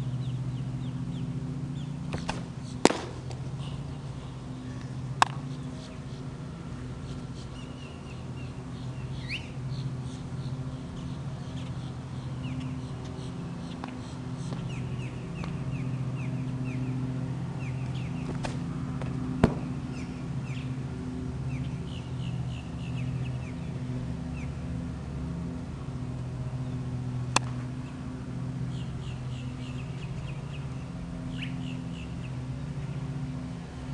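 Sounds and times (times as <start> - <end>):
birds chirping: 0.0 - 24.8, 26.5 - 33.6
low hum: 0.0 - 33.9.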